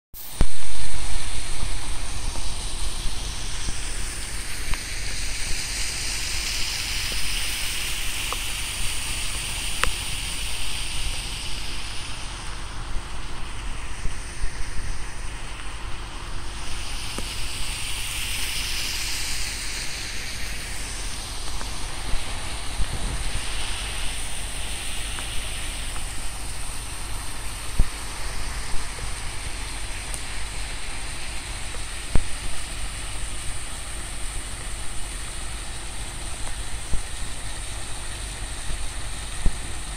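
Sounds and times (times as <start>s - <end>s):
loud noise burst: 0.2s - 39.8s
waterfall rushing: 0.2s - 39.9s
wind rumble on microphone: 0.2s - 39.9s.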